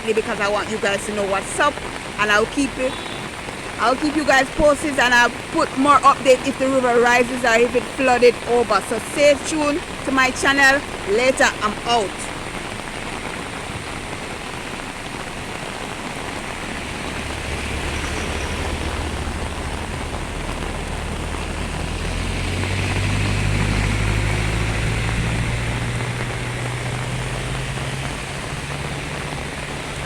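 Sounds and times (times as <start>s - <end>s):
heavy rain: 0.0s - 30.0s
rushing floodwater: 0.0s - 30.0s
vehicle engine hum: 0.0s - 30.0s.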